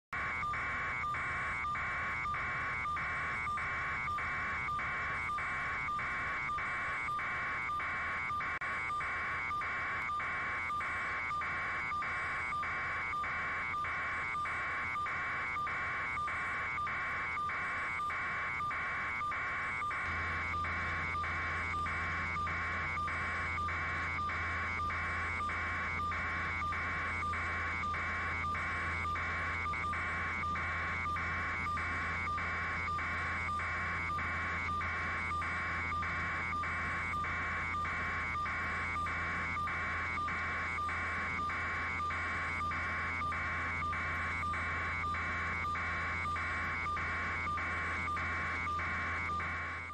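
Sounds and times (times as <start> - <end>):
rapid electronic beeping: 0.1 - 49.9.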